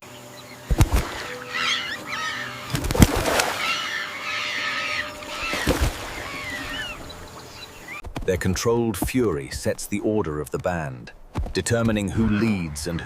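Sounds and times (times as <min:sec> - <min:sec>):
birds chirping and calling: 0:00.0 - 0:10.6, 0:11.6 - 0:13.0.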